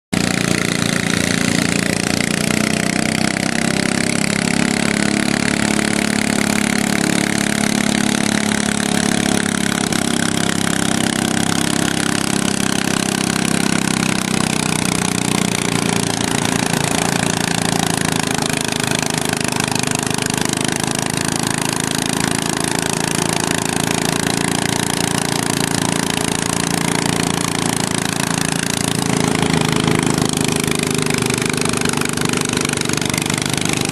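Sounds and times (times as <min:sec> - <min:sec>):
tractor engine at high revs: 0:00.1 - 0:33.9.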